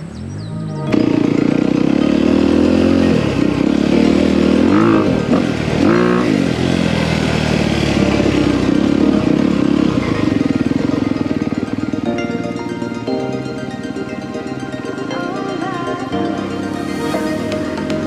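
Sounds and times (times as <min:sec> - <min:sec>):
dirt bike engine running: 0:00.9 - 0:18.0.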